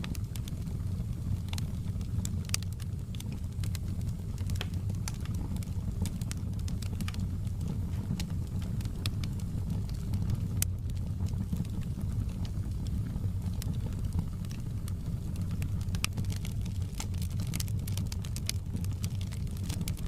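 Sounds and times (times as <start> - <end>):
fire crackling and popping: 0.0 - 20.0
low fire rumble: 0.0 - 20.0.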